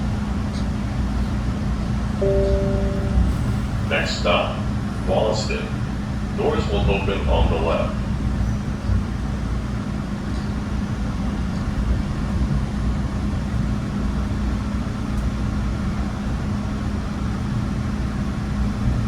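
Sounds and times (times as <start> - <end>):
subway car rumble: 0.0 - 19.0.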